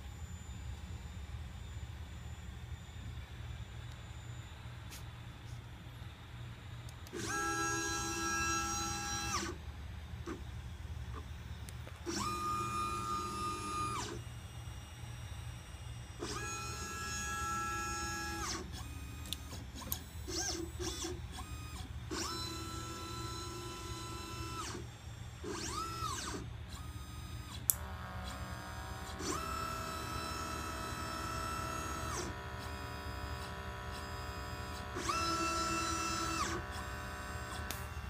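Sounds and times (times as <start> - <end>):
short clicks and whirs: 0.0 - 38.0
steady low hum: 0.0 - 38.0
stepper motors whining: 0.0 - 38.0.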